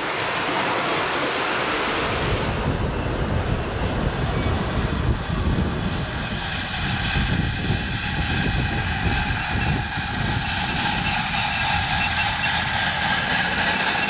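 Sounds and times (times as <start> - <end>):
steam locomotive rumbling past: 0.0 - 14.0
wheels on rails: 0.0 - 14.0.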